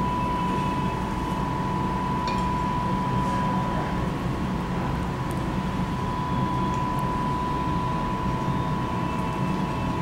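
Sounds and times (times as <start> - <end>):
high whine: 0.0 - 4.3, 5.6 - 10.0.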